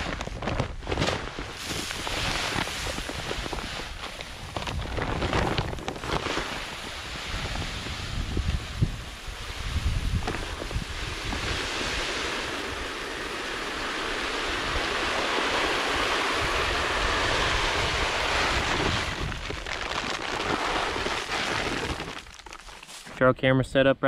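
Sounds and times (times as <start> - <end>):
grain pouring hiss: 0.0 - 23.2.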